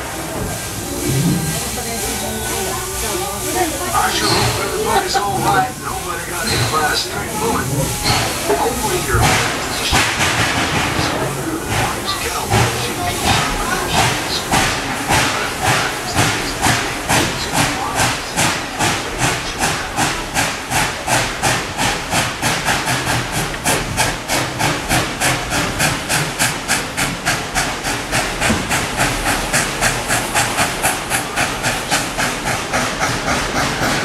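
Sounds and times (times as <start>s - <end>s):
steam hissing: 0.0s - 34.0s
steam locomotive chuffing: 0.0s - 34.0s.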